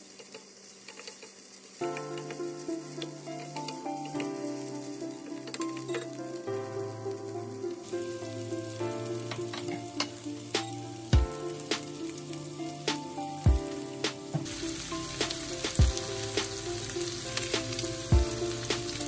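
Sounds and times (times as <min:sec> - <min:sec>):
fat spattering crackles: 0:00.0 - 0:19.0
meat sizzling in a wok: 0:00.0 - 0:19.0
soft background music: 0:01.7 - 0:19.0.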